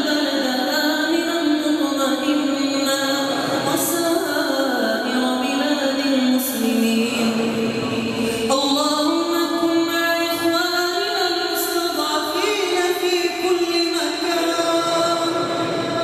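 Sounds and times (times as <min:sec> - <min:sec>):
person chanting melodic recitation: 0:00.0 - 0:16.0.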